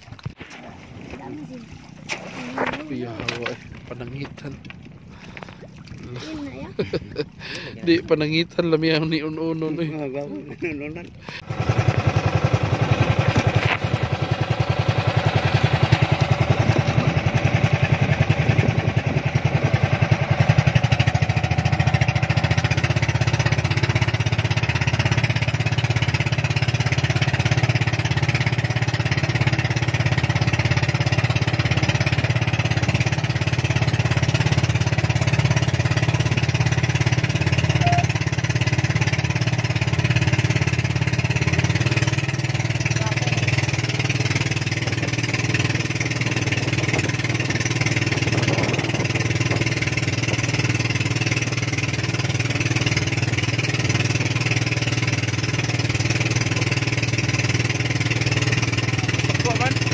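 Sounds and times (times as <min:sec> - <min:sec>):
small engine chugging: 0:11.2 - 0:59.9.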